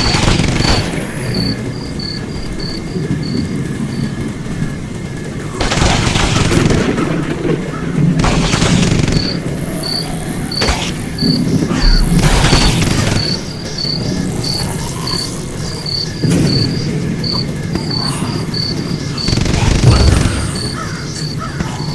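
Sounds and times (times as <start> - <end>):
bonfire crackling: 0.0 - 21.9
cricket chirping: 0.0 - 21.9.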